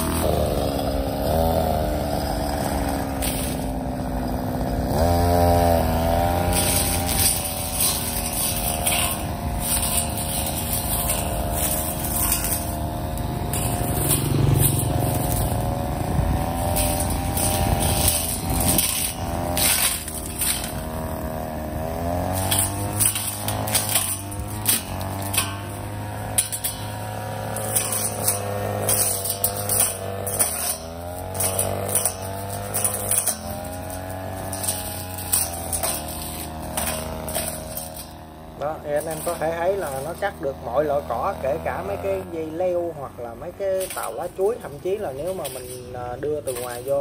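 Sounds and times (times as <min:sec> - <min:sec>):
brush cutter engine: 0:00.0 - 0:47.0
cutting head striking growth: 0:00.0 - 0:47.0.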